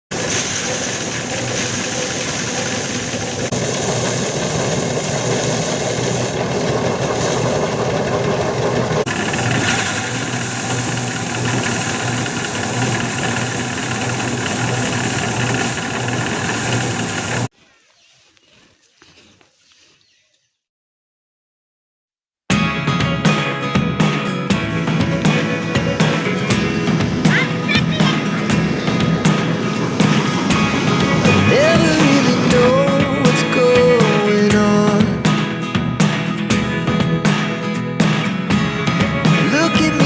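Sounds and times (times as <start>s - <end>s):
threshing machine running: 0.1s - 17.5s, 24.6s - 40.0s.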